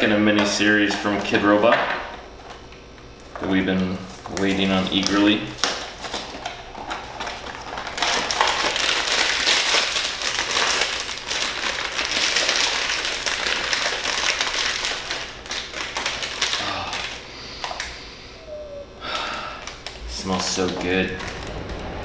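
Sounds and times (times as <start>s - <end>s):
wrapping crinkling and crackling: 2.1s - 22.0s.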